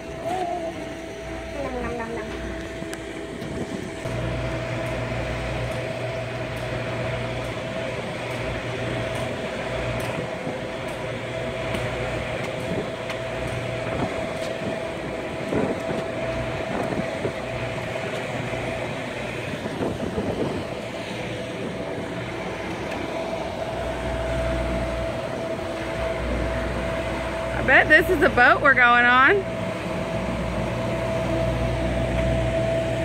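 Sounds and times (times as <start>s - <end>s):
vehicle interior drone: 0.0s - 33.0s.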